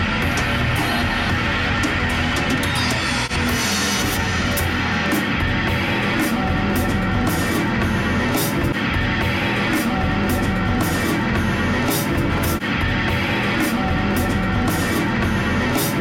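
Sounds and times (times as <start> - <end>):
heavy metal music: 0.0 - 16.0.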